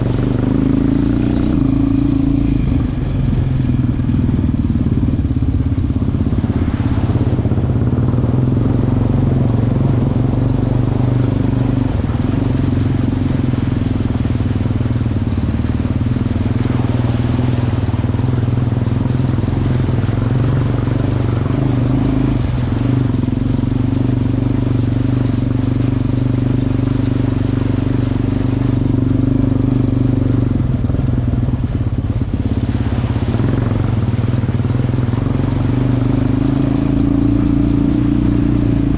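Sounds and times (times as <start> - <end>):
quad engine running: 0.0 - 38.9
water splashing: 0.0 - 38.9.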